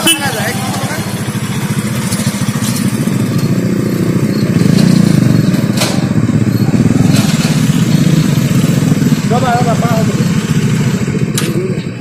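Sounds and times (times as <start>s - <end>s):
motorcycle engines: 0.0s - 12.0s.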